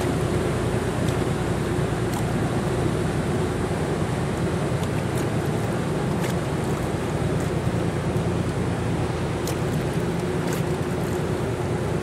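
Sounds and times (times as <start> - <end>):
boat engine droning: 0.0 - 12.0
water rushing along hull: 0.0 - 12.0.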